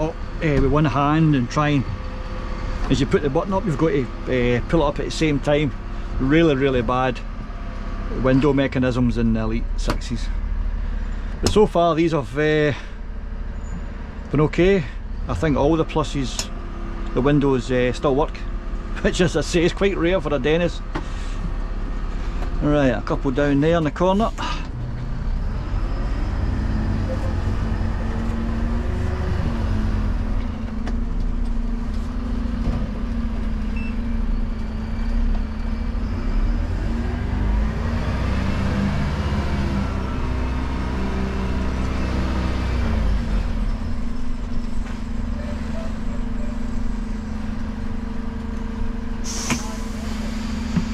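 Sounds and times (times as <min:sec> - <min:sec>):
truck engine from inside cab: 0:00.0 - 0:50.9.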